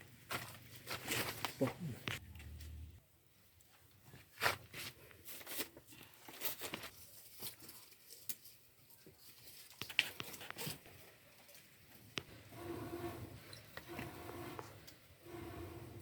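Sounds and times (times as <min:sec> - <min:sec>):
rustling and crinkling: 0:00.0 - 0:02.8, 0:03.4 - 0:15.0.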